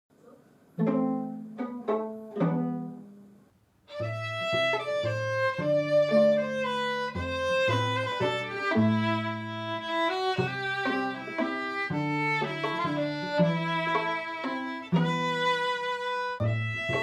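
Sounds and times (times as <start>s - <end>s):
string quartet playing: 0.8s - 3.2s, 3.9s - 17.0s.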